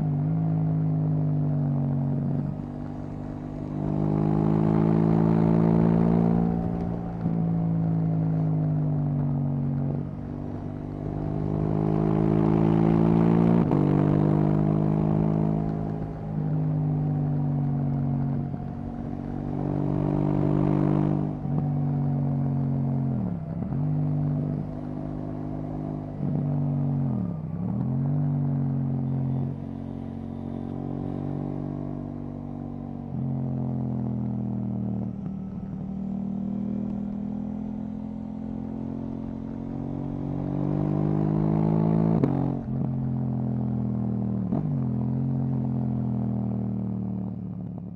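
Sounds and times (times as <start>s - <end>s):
motorcycle engine revving: 2.5s - 46.7s.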